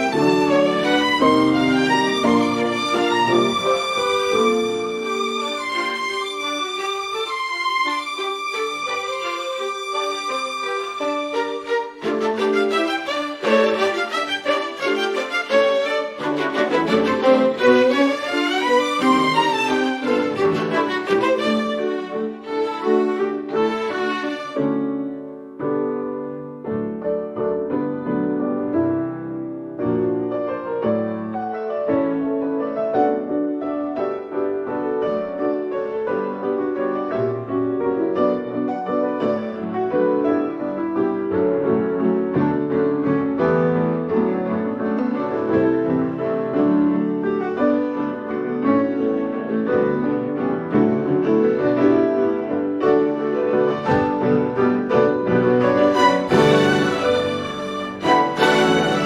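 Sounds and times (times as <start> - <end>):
instrumental piano music: 0.0 - 59.0.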